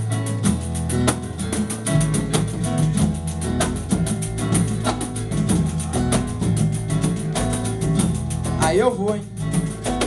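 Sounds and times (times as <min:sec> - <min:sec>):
bass line: 0:00.0 - 0:10.0
hand drums rhythm: 0:00.0 - 0:10.0
strummed acoustic guitar: 0:00.0 - 0:10.0.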